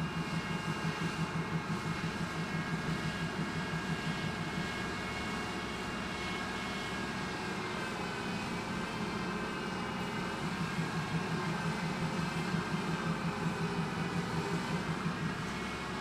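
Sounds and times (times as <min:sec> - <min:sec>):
machine drone with held tones: 0:00.0 - 0:16.0
pulsing low hum: 0:00.0 - 0:16.0.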